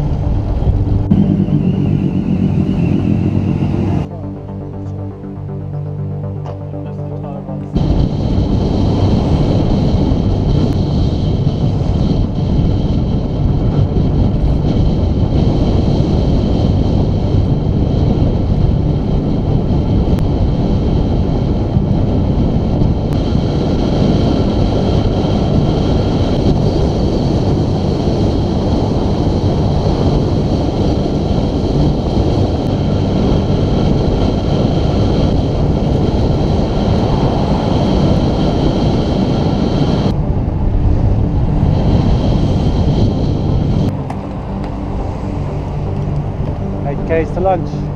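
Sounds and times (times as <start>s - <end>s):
wind buffeting microphone: 0.0s - 5.2s, 7.6s - 47.9s.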